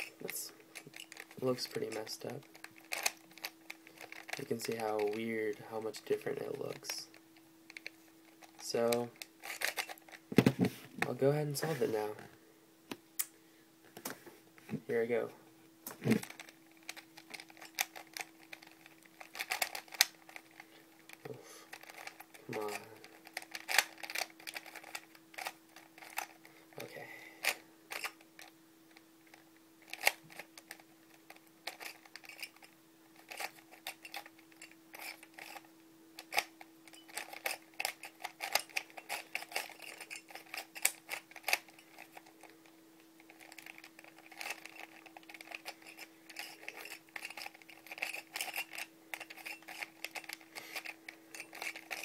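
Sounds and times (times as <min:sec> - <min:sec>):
puzzle cube plastic clicks: 0:00.2 - 0:07.1, 0:07.7 - 0:10.3, 0:15.9 - 0:26.4, 0:27.4 - 0:42.6, 0:43.2 - 0:52.0.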